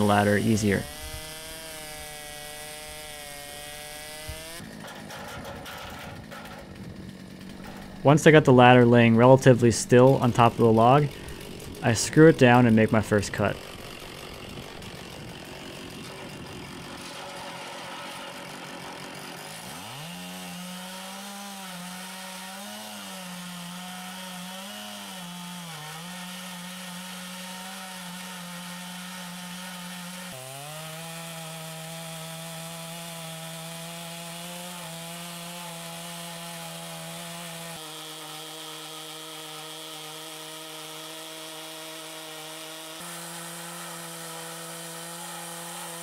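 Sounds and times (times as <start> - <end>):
chainsaw cutting log: 0.0 - 46.0.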